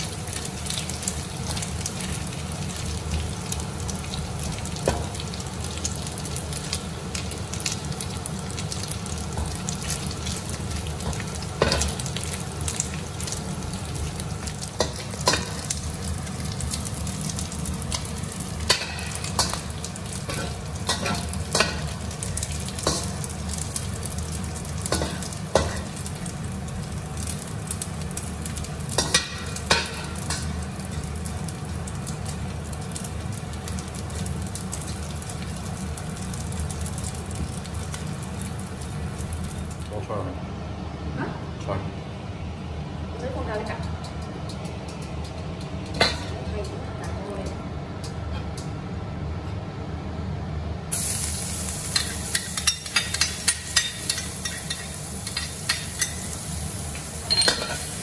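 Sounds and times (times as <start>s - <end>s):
fish sizzling in oil: 0.0s - 40.0s, 50.9s - 58.0s.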